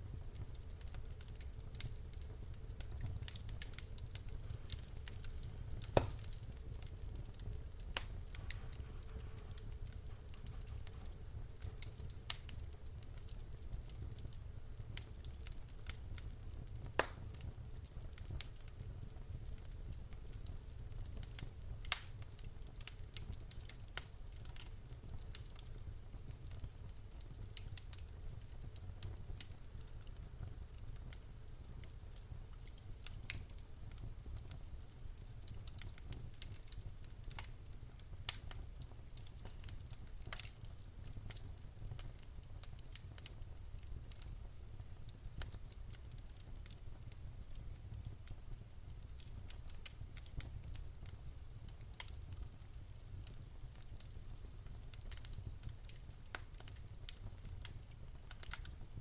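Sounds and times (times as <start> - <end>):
low rumble of flames: 0.0 - 59.0
logs crackling and popping: 0.1 - 59.0.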